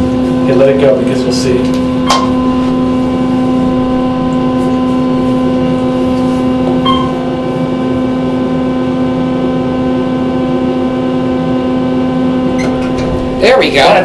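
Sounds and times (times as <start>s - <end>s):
elevator humming in motion: 0.0s - 14.0s.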